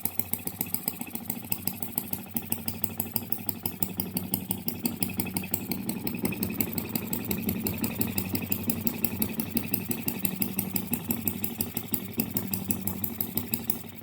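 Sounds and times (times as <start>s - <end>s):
single-cylinder engine idling: 0.0s - 14.0s.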